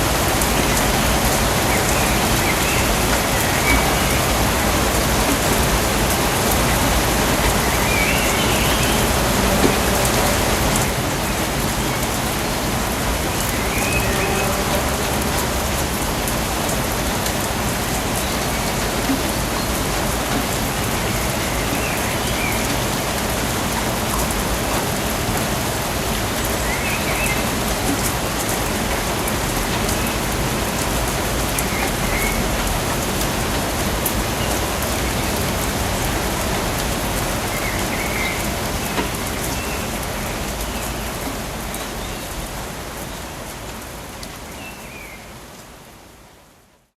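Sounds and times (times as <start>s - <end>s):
rain on leaves: 0.0s - 46.9s.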